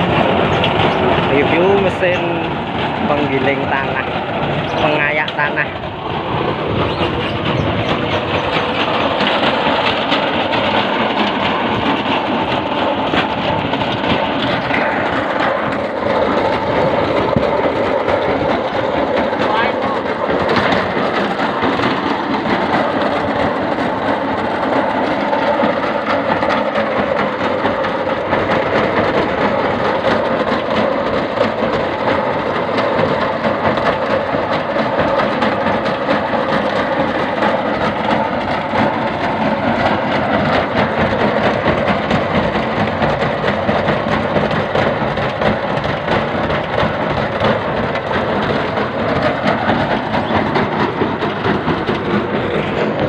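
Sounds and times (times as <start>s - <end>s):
grinding machine rattling: 0.0s - 53.0s.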